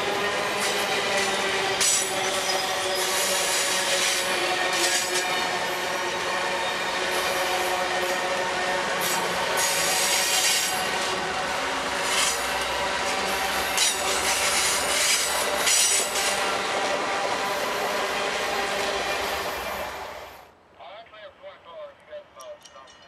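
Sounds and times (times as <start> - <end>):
train wheels rushing on rails: 0.0 - 20.6.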